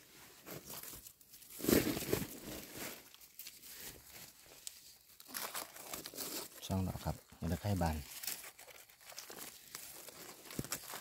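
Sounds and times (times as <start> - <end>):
dry leaves rustling and crackling: 0.5 - 11.0.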